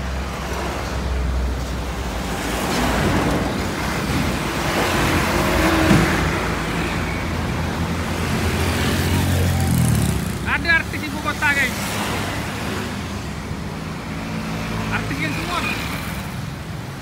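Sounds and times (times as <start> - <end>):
heavy trucks passing: 0.0 - 17.0
motorcycles passing: 0.1 - 17.0.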